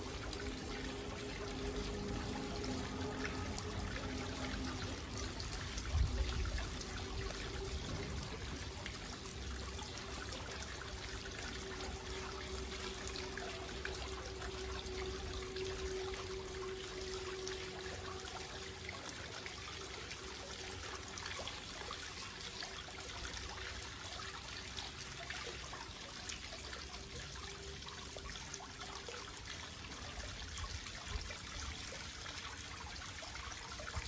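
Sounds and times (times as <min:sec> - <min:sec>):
faint steady hum: 0:00.0 - 0:34.0
fountain water trickling: 0:00.0 - 0:34.0
water drips: 0:00.0 - 0:34.0.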